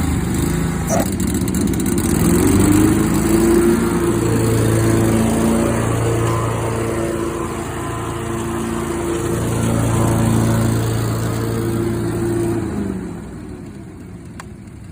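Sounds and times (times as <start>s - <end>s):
mower engine running: 0.0s - 14.9s.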